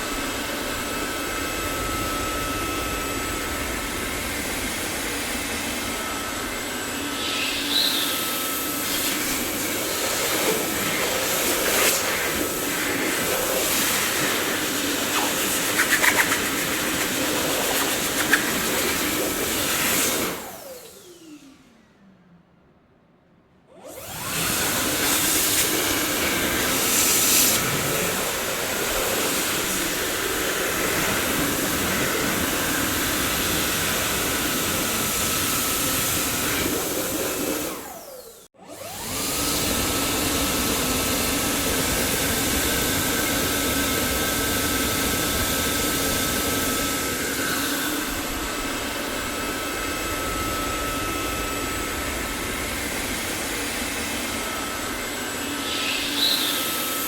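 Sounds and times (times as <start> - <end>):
vacuum cleaner running: 0.0 - 22.0, 23.7 - 57.0.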